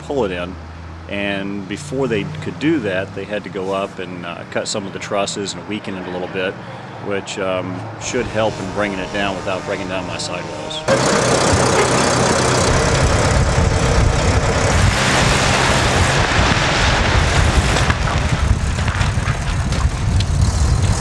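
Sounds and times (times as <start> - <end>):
heavy vehicle engine droning: 0.0 - 21.0.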